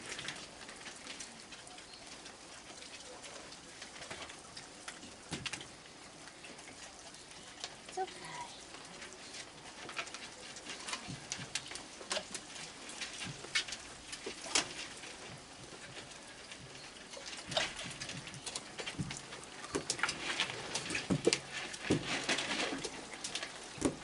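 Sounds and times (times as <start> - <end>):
raccoons clicking and chewing: 0.0 - 24.0.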